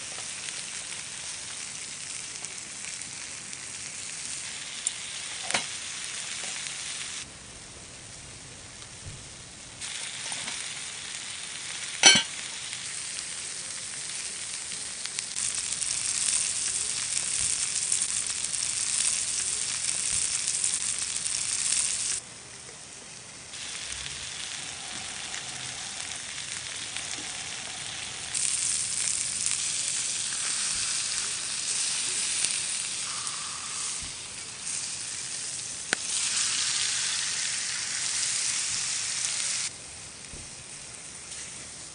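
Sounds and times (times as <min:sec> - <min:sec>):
meat sizzling on a griddle: 0:00.0 - 0:07.3, 0:08.3 - 0:41.9.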